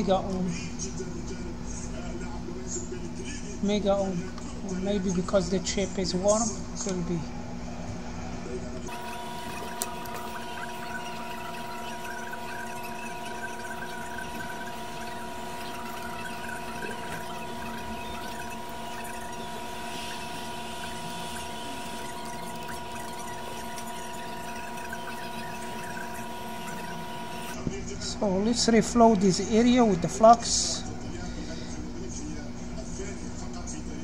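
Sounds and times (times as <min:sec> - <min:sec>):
steady tonal hum: 0:00.0 - 0:32.3.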